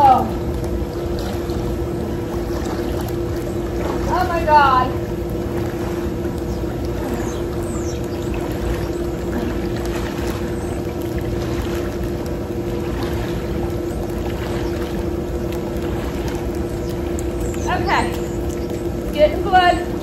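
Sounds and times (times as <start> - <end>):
steady machine hum: 0.0 - 20.0
water splashing from swimming strokes: 0.0 - 20.0.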